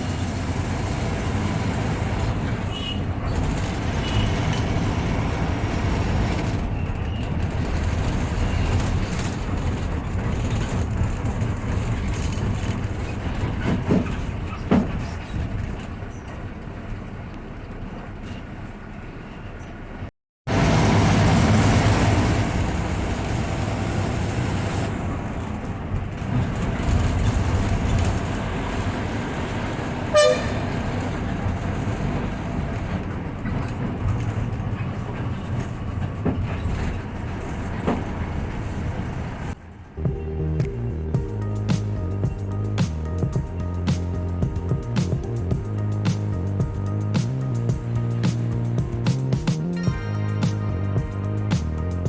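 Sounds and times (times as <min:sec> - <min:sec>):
bus engine rumble: 0:00.0 - 0:52.0
road noise: 0:00.0 - 0:52.0.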